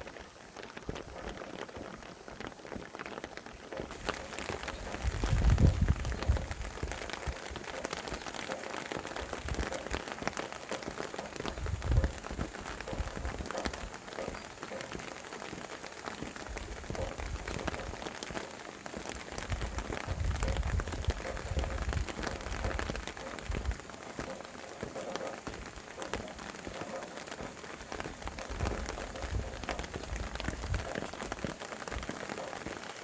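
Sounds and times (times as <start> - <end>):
steady rain: 0.0 - 33.0
wind gusts on microphone: 3.7 - 15.6, 16.2 - 32.8.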